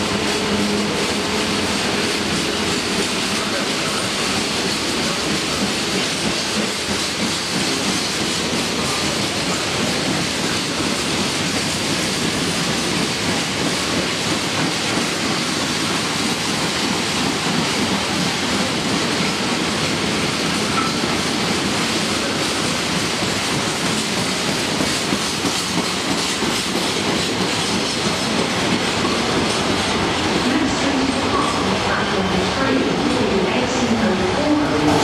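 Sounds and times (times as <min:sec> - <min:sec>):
steel wheels running on rails: 0:00.0 - 0:35.0.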